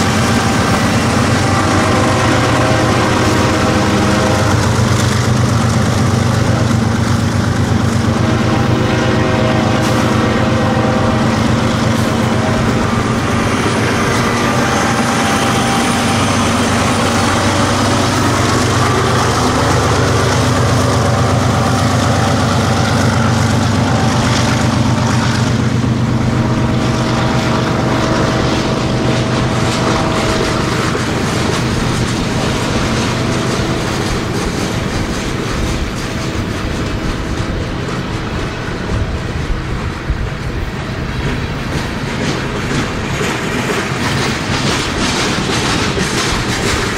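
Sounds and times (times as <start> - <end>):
diesel locomotive engines droning: 0.0 - 46.9.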